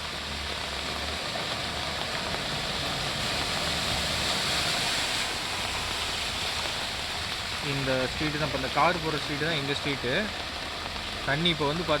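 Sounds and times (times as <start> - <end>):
rain hissing: 0.0 - 12.0
rushing floodwater: 0.0 - 12.0.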